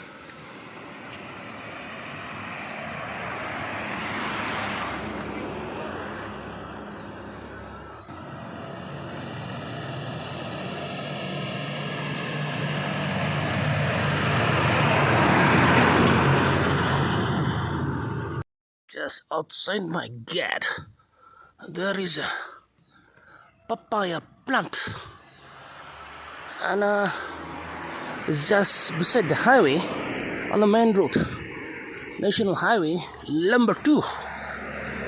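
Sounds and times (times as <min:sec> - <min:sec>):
vehicles passing on highway: 0:00.0 - 0:18.4, 0:21.0 - 0:35.0.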